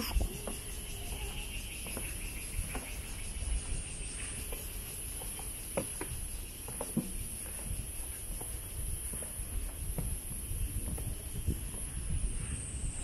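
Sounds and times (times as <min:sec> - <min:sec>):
footsteps on wooden boardwalk: 0:00.0 - 0:13.0
insects droning: 0:00.0 - 0:13.0.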